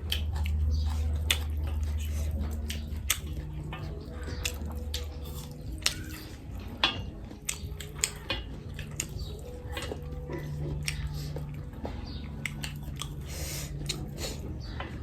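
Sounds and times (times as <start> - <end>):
clicks and crunches on plate: 0.0 - 11.6, 12.2 - 14.2
chewing and biting food: 0.0 - 15.0
low steady hum: 0.0 - 15.0.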